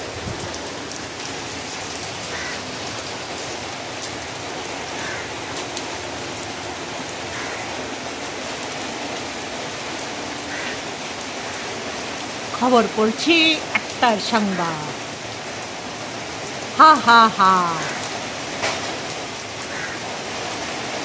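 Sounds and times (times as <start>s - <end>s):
rain falling on concrete: 0.0s - 21.0s.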